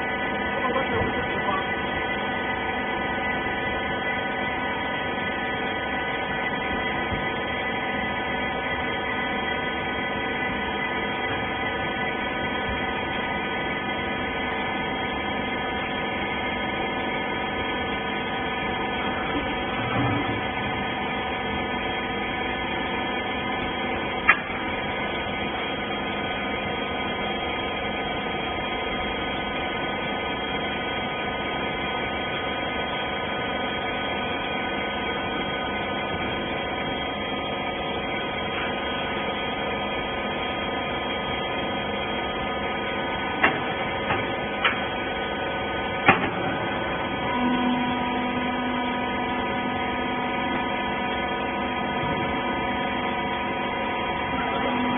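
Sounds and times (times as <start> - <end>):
baler machine humming: 0.0 - 54.9.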